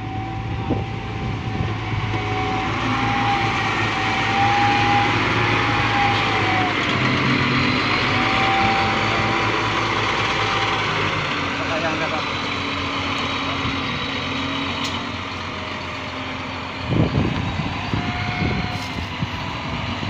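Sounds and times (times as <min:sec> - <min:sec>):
heavy machinery diesel engine running: 0:00.0 - 0:20.0.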